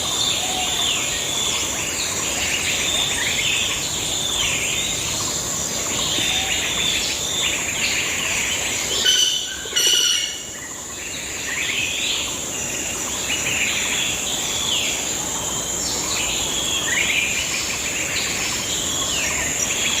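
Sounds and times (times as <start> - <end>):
birds chirping and singing: 0.0 - 20.0
loud pitched bird calls: 0.0 - 20.0.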